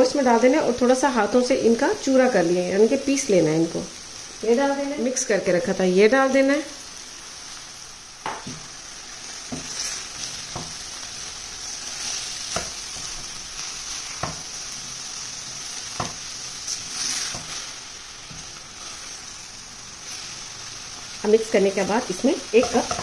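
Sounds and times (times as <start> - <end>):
minced meat sizzling in oil: 0.0 - 23.0.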